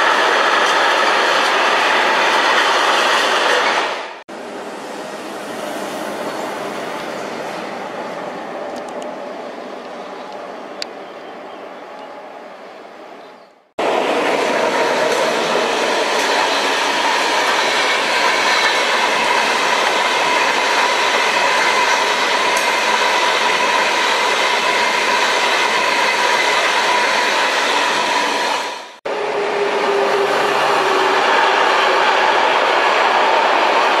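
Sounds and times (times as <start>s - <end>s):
passenger train wheels on rail: 0.0s - 11.0s, 13.8s - 34.0s
freight train passing: 0.0s - 34.0s.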